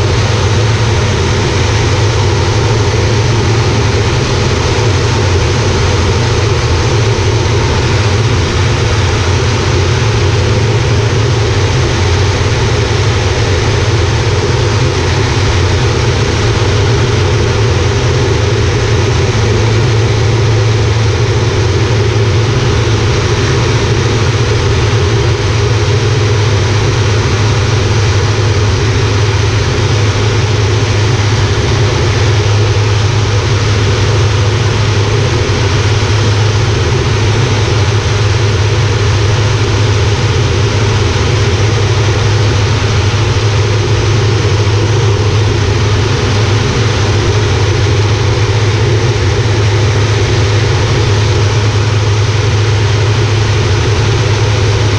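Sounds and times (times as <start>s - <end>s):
propeller plane droning in cockpit: 0.0s - 54.9s.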